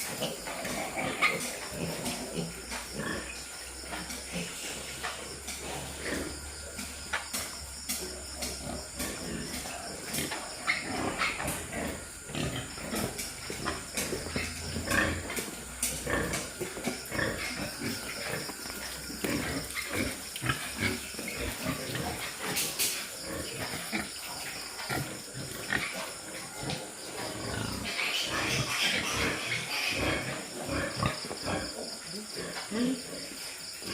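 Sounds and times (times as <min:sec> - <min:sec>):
pigs grunting: 0:00.0 - 0:33.9.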